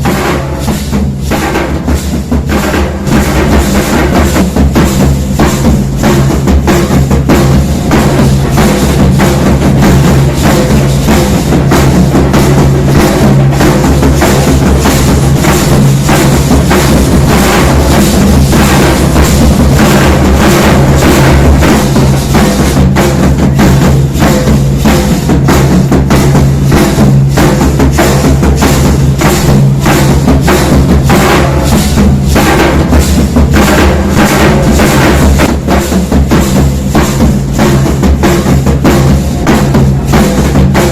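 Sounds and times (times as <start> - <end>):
fast loud drumming: 0.0 - 40.9.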